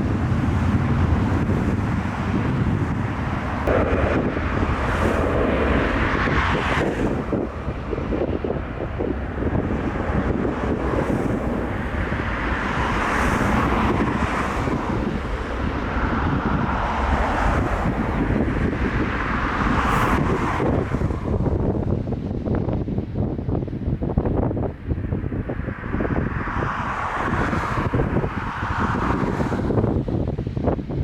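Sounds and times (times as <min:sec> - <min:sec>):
jet engines rumbling: 0:00.0 - 0:31.0
wind buffeting microphone: 0:00.0 - 0:31.0.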